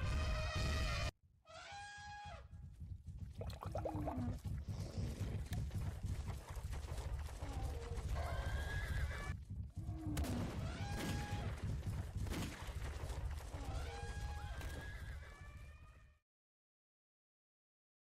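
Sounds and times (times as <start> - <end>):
stampede of running animals: 1.7 - 16.2.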